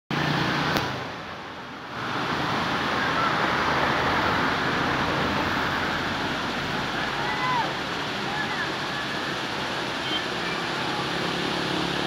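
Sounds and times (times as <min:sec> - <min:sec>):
river rushing over stones: 0:00.1 - 0:12.0.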